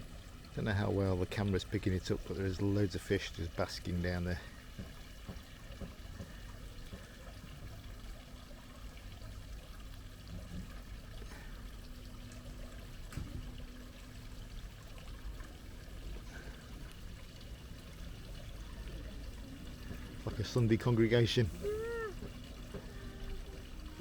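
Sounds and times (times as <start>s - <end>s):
water lapping against quayside: 0.0s - 24.0s.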